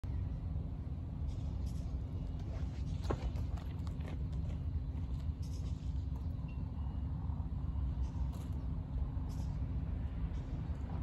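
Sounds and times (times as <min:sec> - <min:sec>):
faint steady hum: 0:00.0 - 0:11.0
low outdoor rumble: 0:00.0 - 0:11.0.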